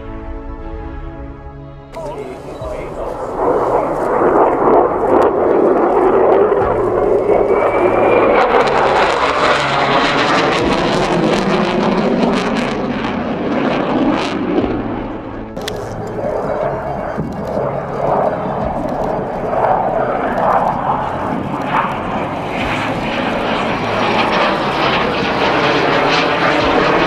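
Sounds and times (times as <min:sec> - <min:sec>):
jet roar flying past: 0:00.0 - 0:27.0.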